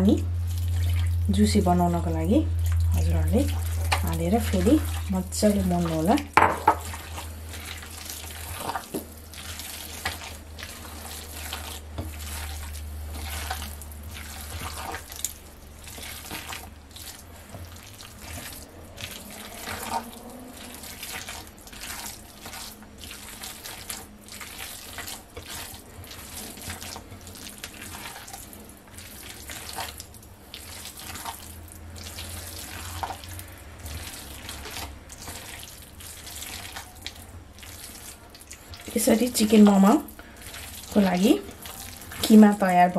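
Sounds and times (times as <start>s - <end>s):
wet mince squelching by hand: 2.6s - 42.6s.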